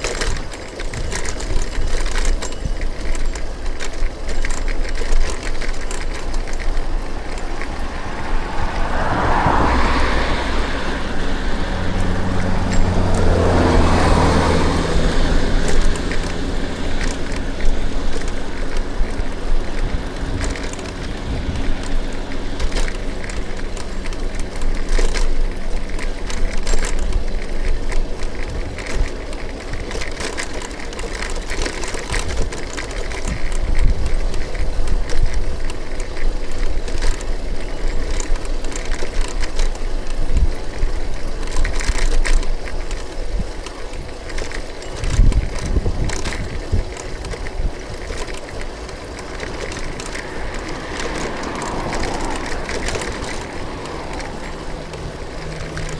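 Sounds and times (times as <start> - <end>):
bicycle clicks and rattles: 0.0 - 55.9
bicycle tyres on road: 0.0 - 55.9.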